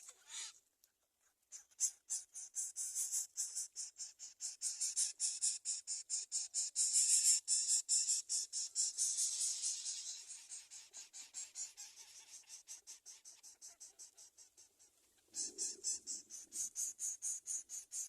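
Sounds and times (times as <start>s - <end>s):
bird chick raspy begging calls: 0.0s - 0.6s, 1.5s - 18.0s.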